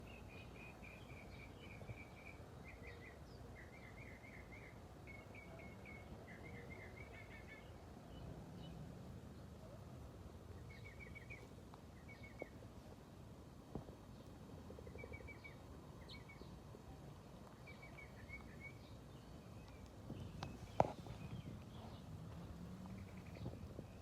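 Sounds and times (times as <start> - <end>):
bird singing faintly: 0.0 - 13.0, 13.7 - 24.0.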